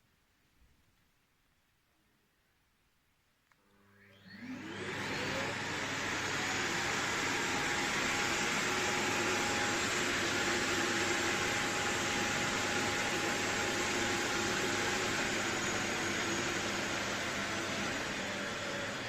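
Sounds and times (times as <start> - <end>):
vacuum cleaner motor whining: 3.7 - 19.0.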